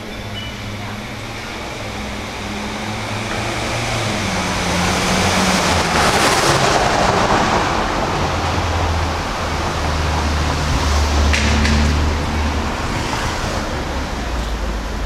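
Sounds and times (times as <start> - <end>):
vehicle passing: 0.7 - 15.0.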